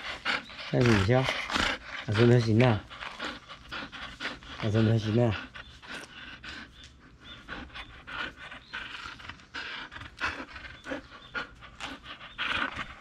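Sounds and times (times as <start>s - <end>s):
puppy panting: 0.0s - 13.0s.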